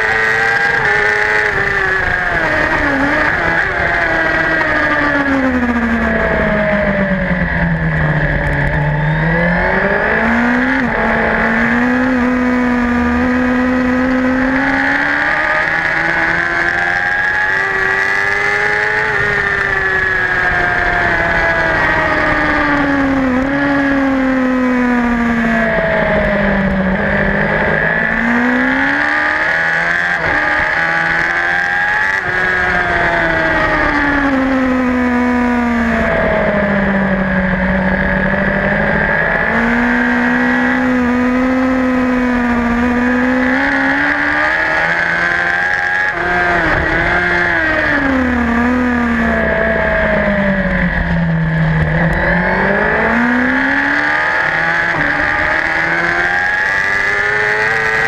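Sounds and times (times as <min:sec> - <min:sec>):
superbike engine downshifting and accelerating: 0:00.0 - 0:58.0.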